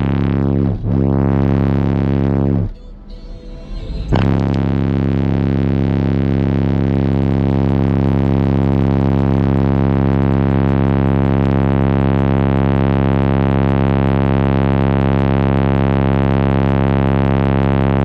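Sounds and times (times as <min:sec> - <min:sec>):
buzzy bass test tone: 0:00.0 - 0:18.0.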